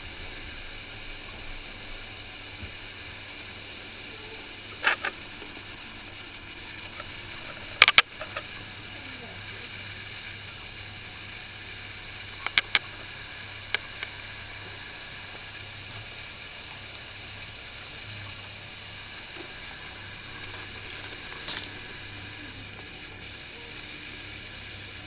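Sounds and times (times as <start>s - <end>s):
background hiss: 0.0s - 25.0s
low hum: 0.0s - 25.0s.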